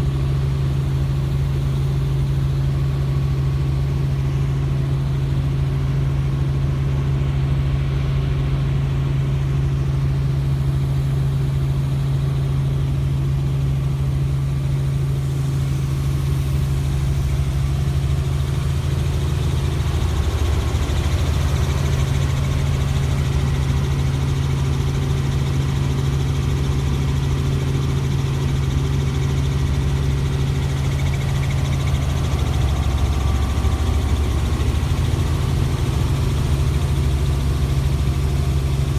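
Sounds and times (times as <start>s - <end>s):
helicopter drone: 0.0s - 38.9s.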